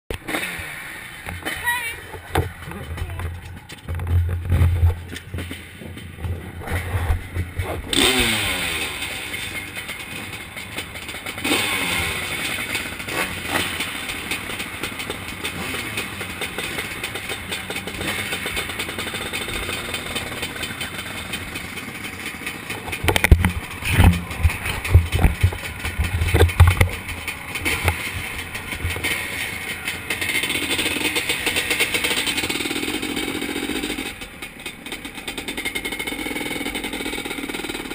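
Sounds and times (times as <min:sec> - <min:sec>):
two-stroke engine revving: 0:00.1 - 0:37.9.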